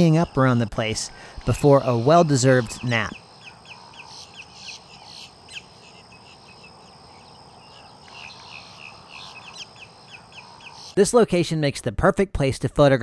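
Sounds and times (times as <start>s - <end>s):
low background hiss: 0.0s - 12.1s.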